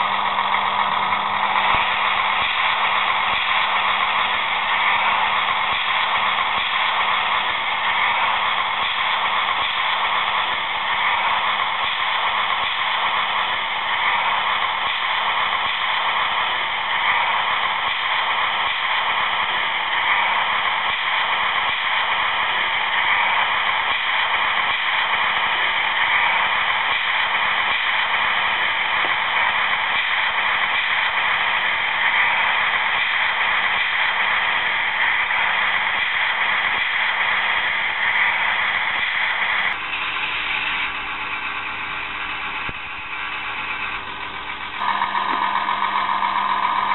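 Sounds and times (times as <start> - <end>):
model machine hissing working sound: 0.0 - 46.9.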